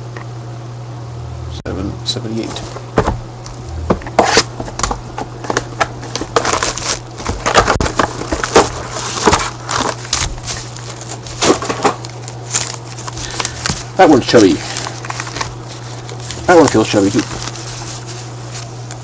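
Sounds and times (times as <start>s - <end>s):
low electrical hum: 0.0s - 19.0s
foil wrappers crinkling: 2.5s - 19.0s.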